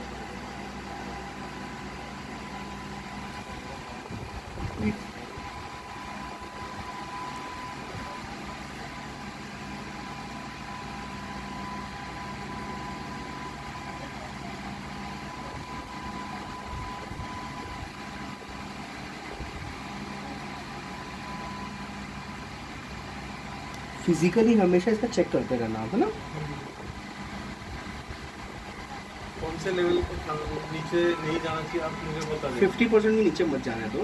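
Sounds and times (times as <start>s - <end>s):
mechanical hum with high tone: 0.0s - 34.0s.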